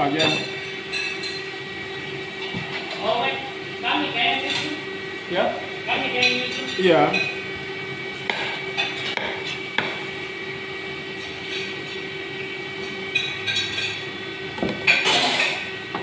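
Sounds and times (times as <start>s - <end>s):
kitchen extraction drone: 0.0s - 16.0s.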